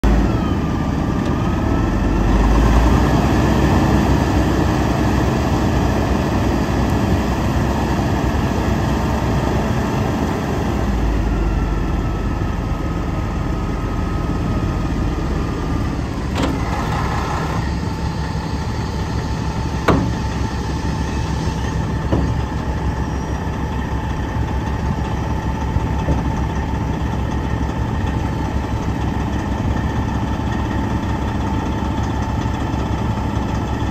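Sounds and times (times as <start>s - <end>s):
hydraulic whine: 0.0s - 33.3s
diesel truck engine running: 0.0s - 33.9s.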